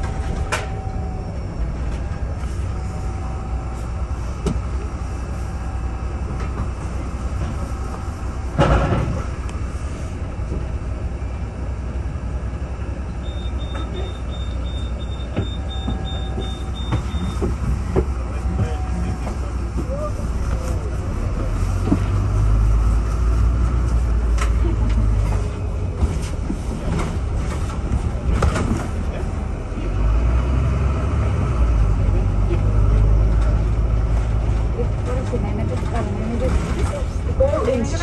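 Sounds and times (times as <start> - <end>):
bus rumbling in motion: 0.0 - 38.0.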